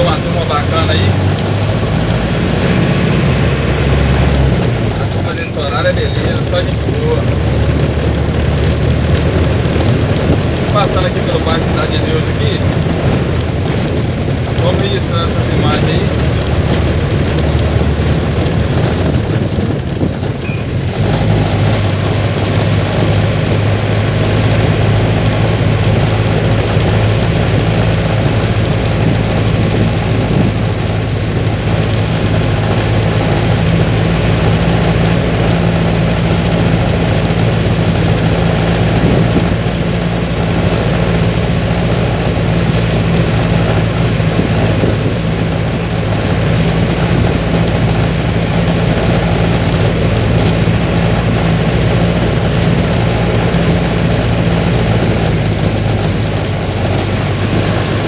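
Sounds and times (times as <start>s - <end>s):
bus diesel engine: 0.0s - 58.0s
road noise: 0.0s - 58.0s.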